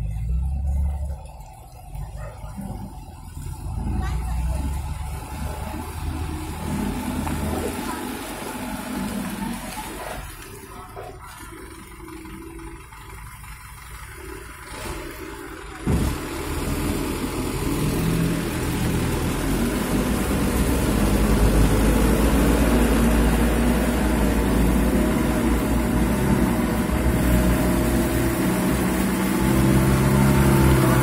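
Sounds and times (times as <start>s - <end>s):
truck engine pulling under load: 0.0s - 31.0s.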